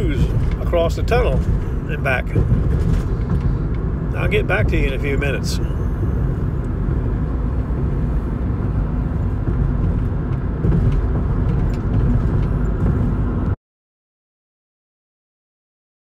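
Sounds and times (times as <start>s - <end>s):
road and engine rumble in van: 0.0s - 13.6s.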